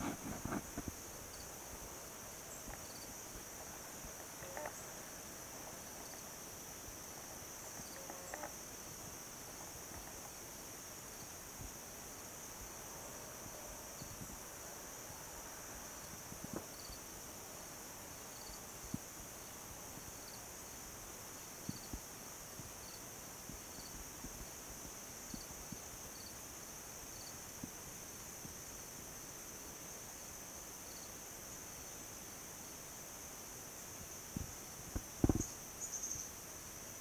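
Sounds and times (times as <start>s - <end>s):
cricket chirping: 0.0s - 37.0s
insect buzz: 0.0s - 37.0s.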